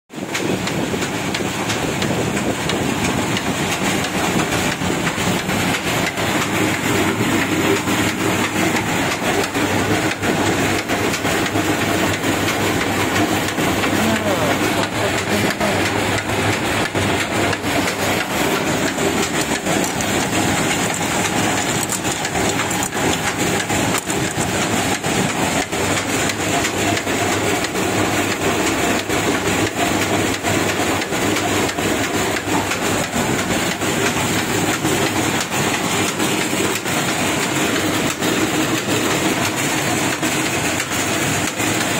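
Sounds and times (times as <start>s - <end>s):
oil expeller clattering: 0.1s - 41.9s.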